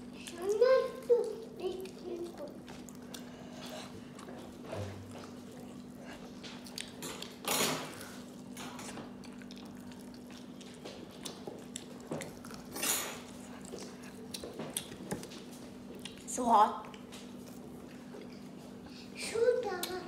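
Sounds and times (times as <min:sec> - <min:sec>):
biting and chewing chicken: 0:00.0 - 0:18.9.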